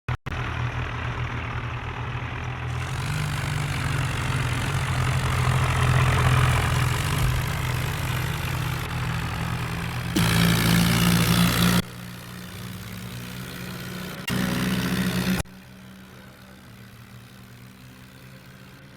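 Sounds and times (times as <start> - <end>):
diesel tractor engine running: 0.1 - 18.9
hissy engine: 0.4 - 18.9.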